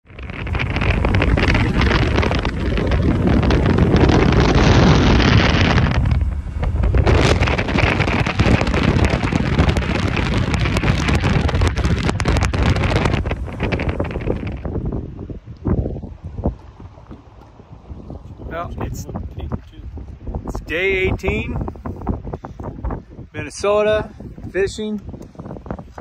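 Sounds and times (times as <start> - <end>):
boat hull on water: 0.0 - 26.0
outboard motor rumble: 0.0 - 26.0
wind buffeting microphone: 0.0 - 26.0.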